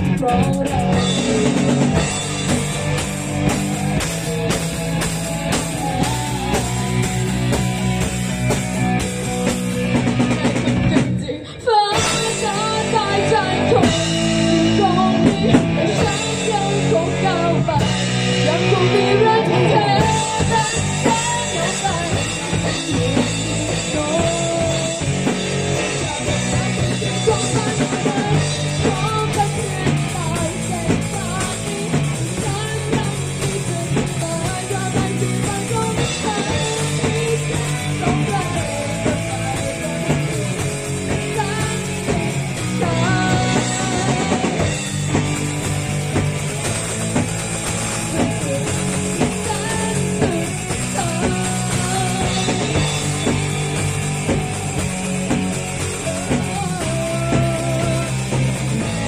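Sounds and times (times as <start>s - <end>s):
girl singing into a microphone: 0.0s - 2.2s, 5.7s - 7.3s, 10.8s - 45.3s, 47.8s - 54.8s, 55.9s - 59.0s
bass guitar: 0.0s - 59.0s
distorted electric guitar: 0.0s - 59.0s
drum kit with cymbals: 0.0s - 59.0s.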